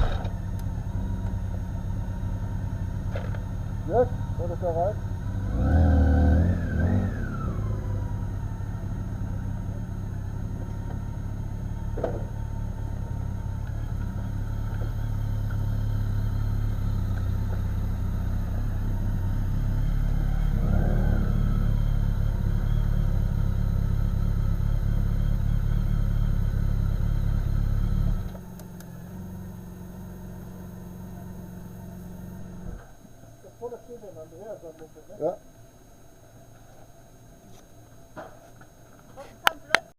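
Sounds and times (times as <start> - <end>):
motorcycle engine running: 0.0 - 37.3.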